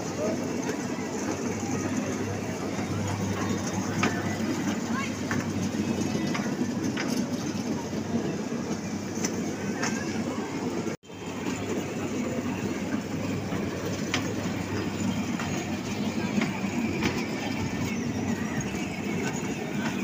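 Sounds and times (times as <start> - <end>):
small train cars rumbling on rails: 0.0 - 20.0.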